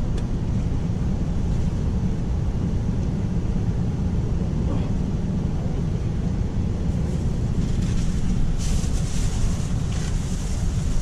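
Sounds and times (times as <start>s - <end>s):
passenger train rumble: 0.0s - 11.0s.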